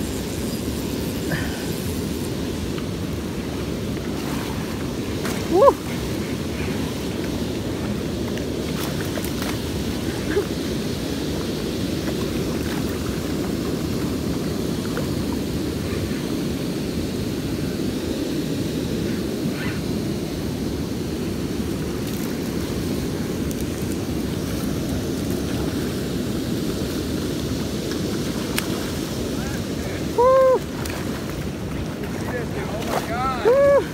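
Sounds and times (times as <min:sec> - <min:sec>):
flowing river water: 0:00.0 - 0:33.9.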